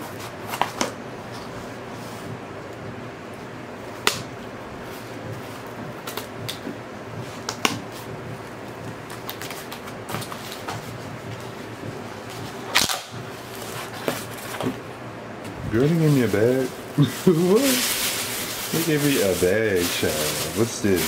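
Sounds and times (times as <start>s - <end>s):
fan-like background hum: 0.0s - 21.0s.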